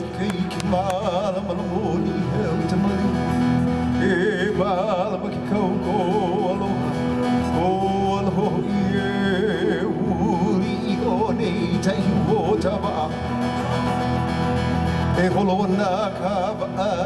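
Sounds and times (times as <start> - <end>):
person singing with vibrato: 0.0 - 17.0
plucked guitar: 0.0 - 17.0.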